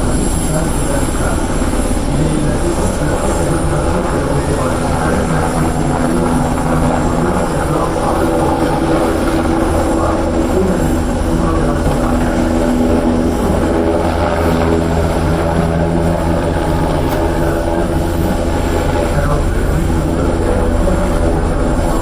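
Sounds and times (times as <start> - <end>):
aircraft engine and rotor noise: 0.0 - 22.0.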